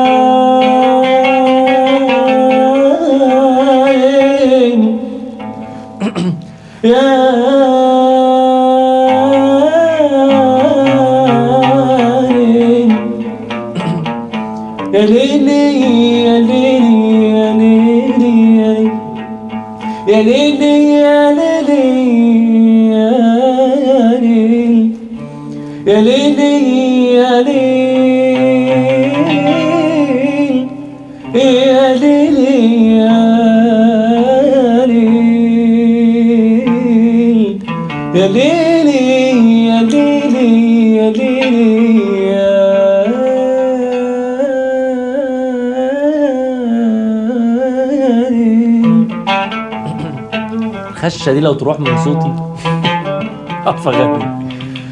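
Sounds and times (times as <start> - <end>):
man singing into a microphone: 0.0 - 5.5, 6.1 - 14.1, 14.8 - 19.3, 19.9 - 50.4
plucked-string accompaniment: 0.0 - 54.9.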